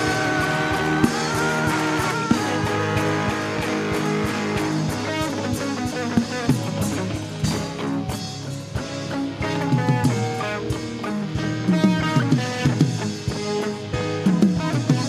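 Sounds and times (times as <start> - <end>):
guitar notes: 0.0 - 15.0
light drums: 0.0 - 15.0.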